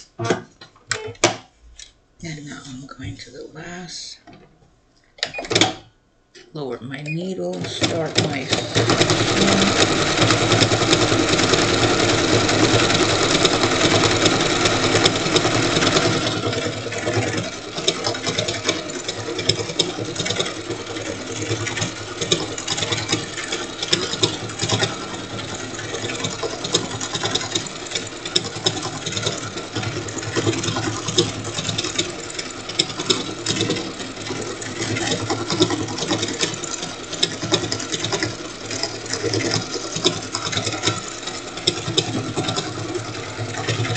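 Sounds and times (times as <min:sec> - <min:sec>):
sewing machine stitching: 0:07.2 - 0:43.9.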